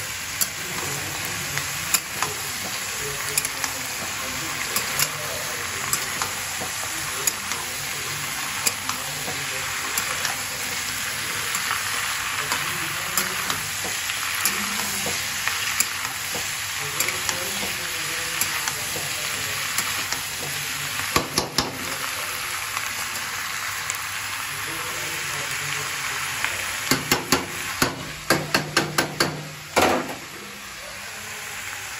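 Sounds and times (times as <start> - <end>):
onions sizzling in hot oil: 0.0 - 31.9.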